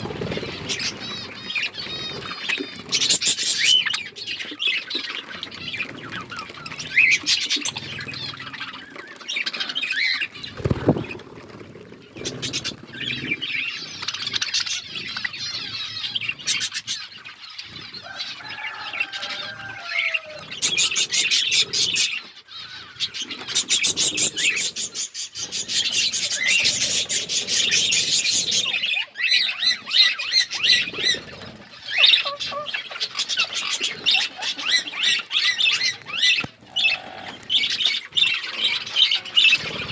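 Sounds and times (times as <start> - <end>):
budgerigars chattering and warbling: 0.0 - 11.2, 12.1 - 39.9.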